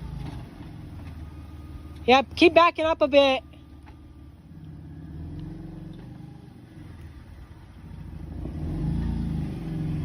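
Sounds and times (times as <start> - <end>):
off-road engine revving: 0.0 - 10.0.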